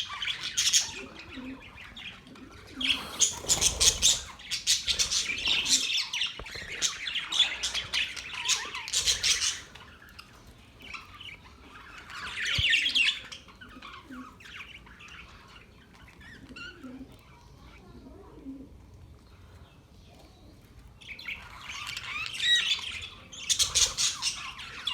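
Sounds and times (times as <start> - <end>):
budgerigars chirping and squawking: 0.0 - 17.7, 21.0 - 24.9.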